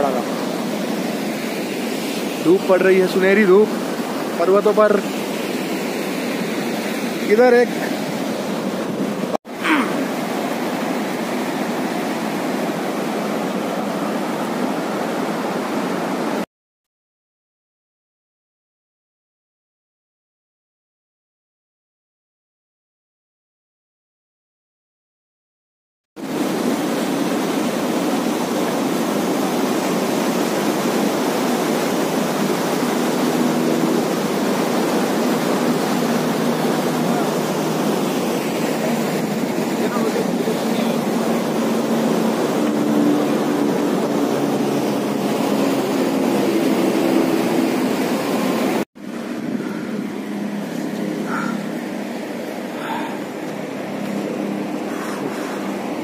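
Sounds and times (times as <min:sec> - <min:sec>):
river rushing over boulders: 0:00.0 - 0:16.4, 0:26.2 - 0:56.0.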